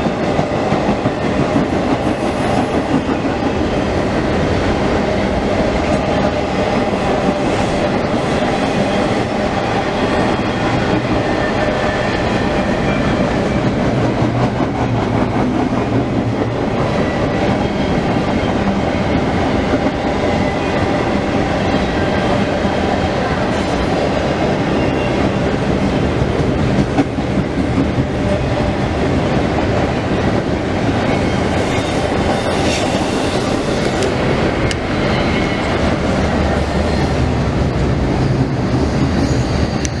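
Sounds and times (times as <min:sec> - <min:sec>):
freight train rumbling and clattering: 0:00.0 - 0:40.0.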